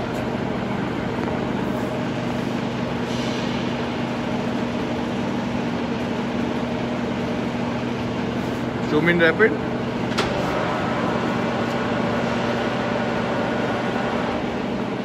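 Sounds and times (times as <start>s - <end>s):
milling machine droning: 0.0s - 15.0s.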